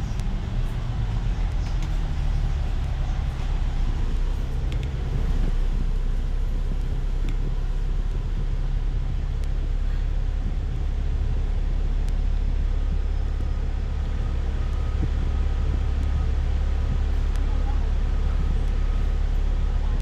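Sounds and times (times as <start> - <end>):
bus engine and tyres rumbling: 0.0 - 20.0.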